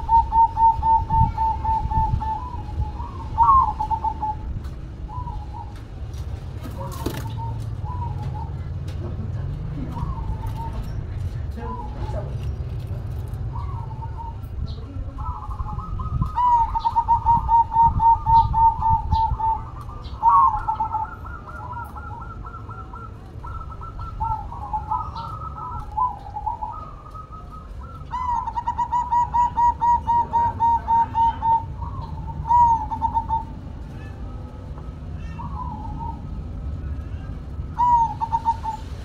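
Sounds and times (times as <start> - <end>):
doves cooing: 0.0 - 39.0.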